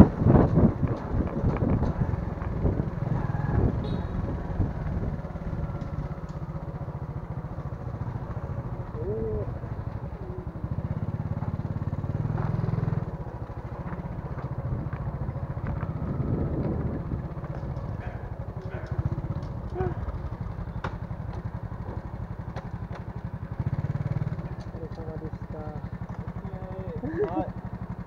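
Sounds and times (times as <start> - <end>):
motorbike engine rumbling: 0.0 - 28.0.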